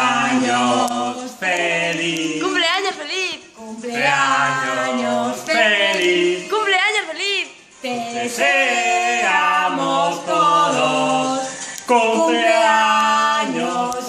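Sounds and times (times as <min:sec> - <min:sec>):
man and woman singing: 0:00.0 - 0:14.0.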